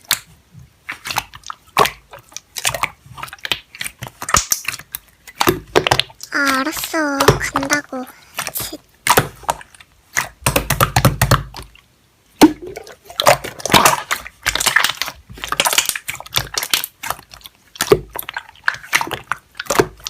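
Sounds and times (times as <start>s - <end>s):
slime squelching by hand: 0.0s - 20.0s.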